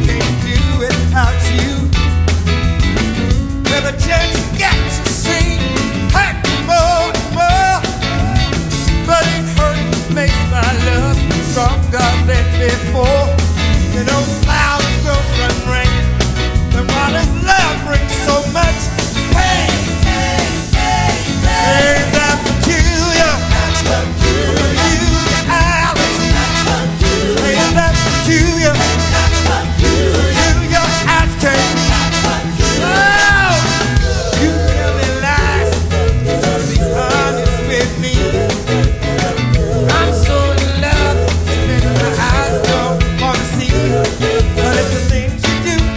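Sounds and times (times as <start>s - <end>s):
drums: 0.0s - 45.9s
live band playing soul music: 0.0s - 45.9s
steady bass line: 0.0s - 45.9s.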